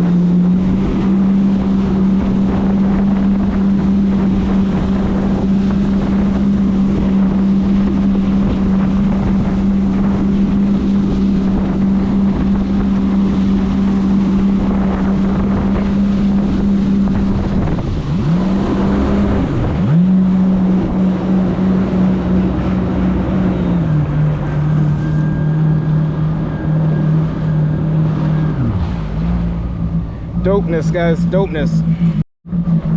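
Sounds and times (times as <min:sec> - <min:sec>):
wind noise on microphone: 0:00.0 - 0:30.5
jet ski engine revving: 0:00.0 - 0:32.9.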